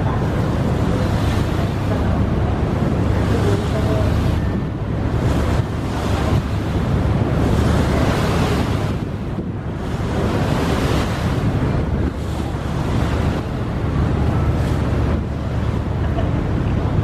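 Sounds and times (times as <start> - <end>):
water rushing and splashing: 0.0 - 17.0
wind buffeting microphone: 0.0 - 17.0.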